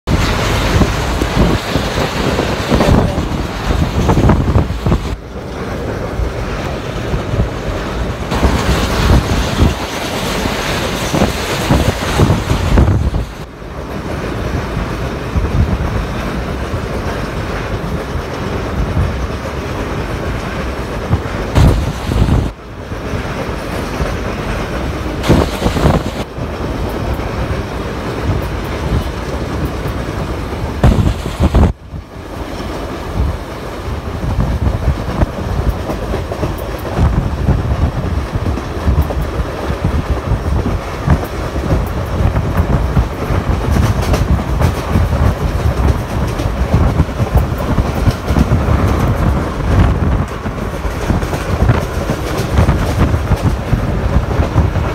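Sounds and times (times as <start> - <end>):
train rumbling and rattling on rails: 0.0 - 54.9.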